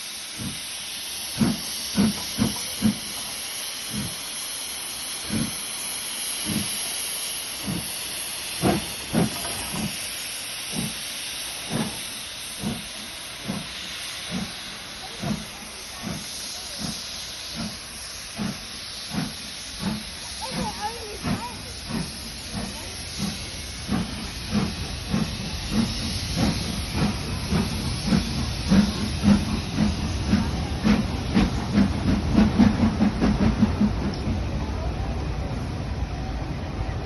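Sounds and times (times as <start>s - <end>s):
steam hissing from locomotive: 0.0s - 37.0s.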